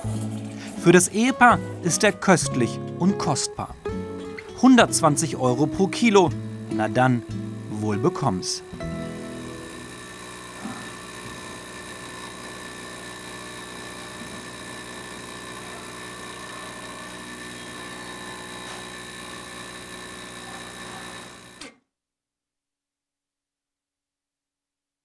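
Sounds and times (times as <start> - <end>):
coffee machine humming: 0.0 - 21.8.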